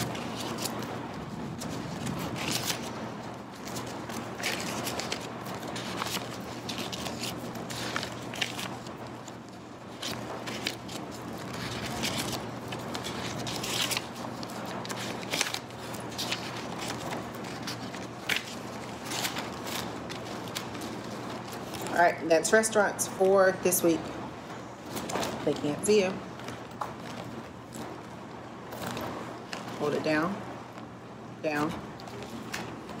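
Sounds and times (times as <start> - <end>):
banknotes rustling and flicking: 0.0 - 33.0.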